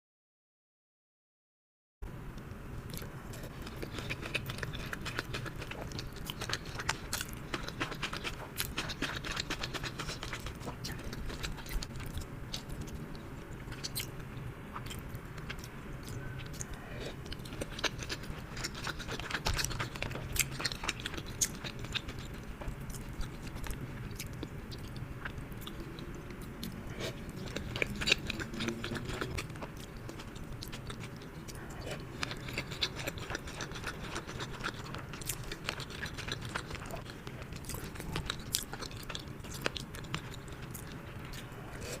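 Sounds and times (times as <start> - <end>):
chewing and biting: 2.9 - 42.0.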